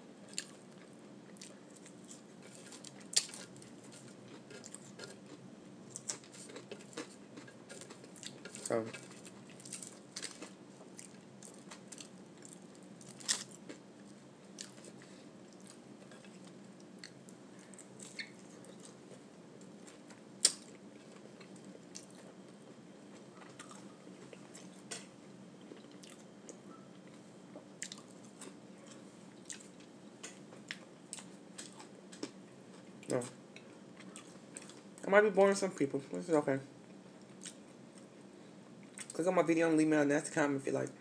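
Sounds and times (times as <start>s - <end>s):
steady low hum: 0.0s - 41.0s
person chewing food: 0.2s - 35.0s, 36.8s - 38.2s, 38.8s - 39.2s.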